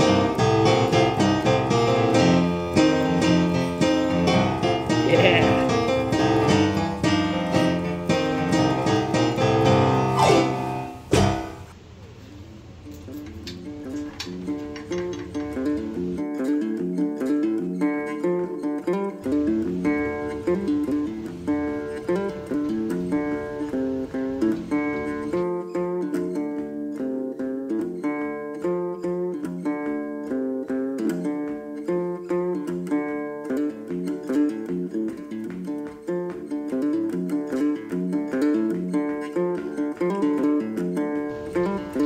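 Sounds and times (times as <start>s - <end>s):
guitar picking notes: 0.0s - 11.8s, 12.8s - 42.0s.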